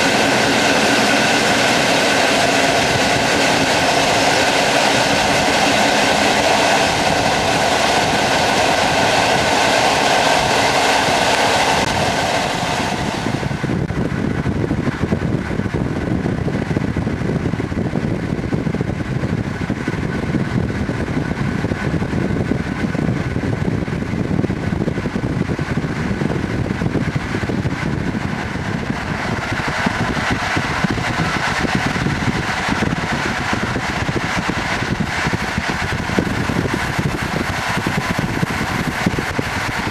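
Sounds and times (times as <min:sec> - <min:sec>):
steady whine: 0:00.0 - 0:39.9
train rumble: 0:00.0 - 0:39.9
train rushing on rails: 0:00.0 - 0:39.9.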